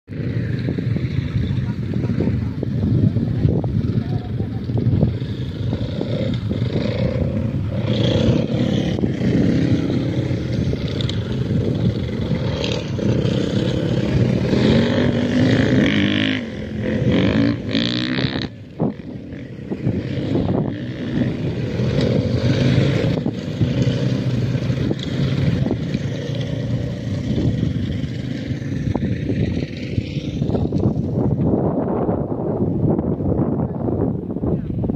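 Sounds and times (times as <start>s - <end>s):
dirt bike engines revving: 0.1s - 34.9s.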